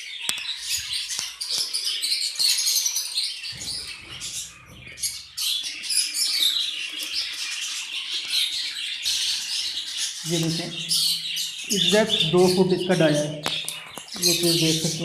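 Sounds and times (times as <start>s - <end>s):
caged birds chattering: 0.0s - 15.0s.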